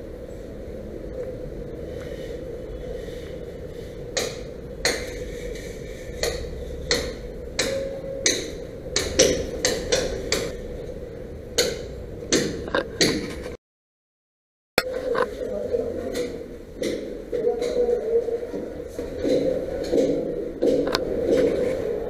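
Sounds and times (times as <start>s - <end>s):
steady hum: 0.0s - 13.6s, 14.8s - 22.0s.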